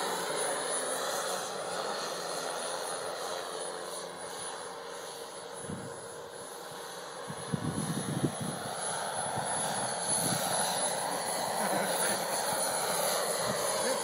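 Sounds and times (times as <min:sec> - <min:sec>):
model helicopter turbine and rotor: 0:00.0 - 0:14.0.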